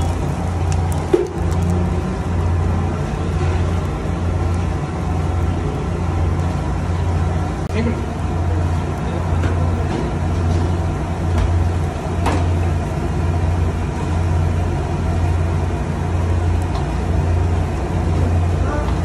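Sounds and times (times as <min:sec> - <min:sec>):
loud low mechanical hum: 0:00.0 - 0:19.0.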